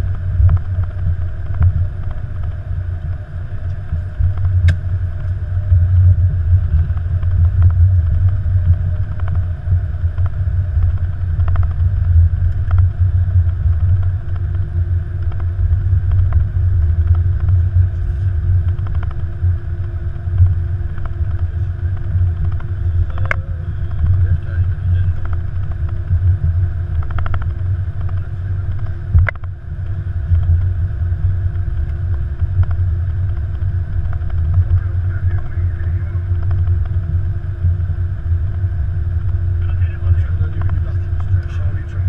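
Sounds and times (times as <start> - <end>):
faint steady hum: 0.0 - 42.0
low rumble of plane on runway: 0.0 - 42.0.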